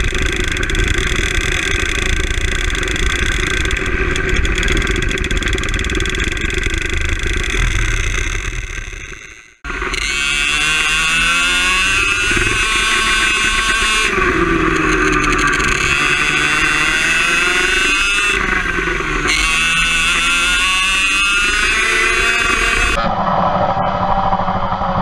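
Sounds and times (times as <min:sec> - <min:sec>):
kart engine whining: 0:00.0 - 0:25.0.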